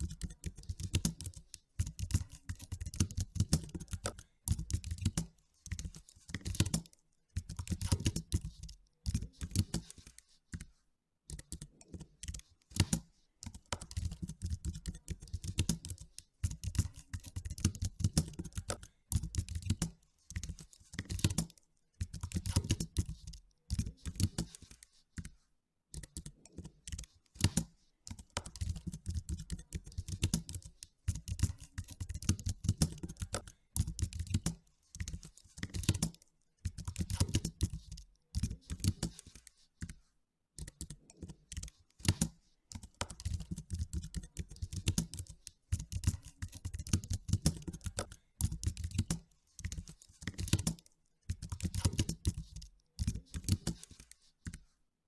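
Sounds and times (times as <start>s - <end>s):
typing on computer keyboard: 0.0s - 40.0s, 40.6s - 54.7s.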